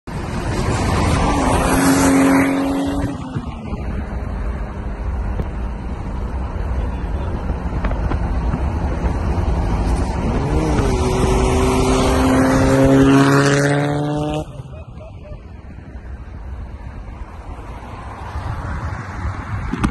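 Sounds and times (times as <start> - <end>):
wind and road rush: 0.0 - 19.9
car engines accelerating hard: 0.1 - 19.9.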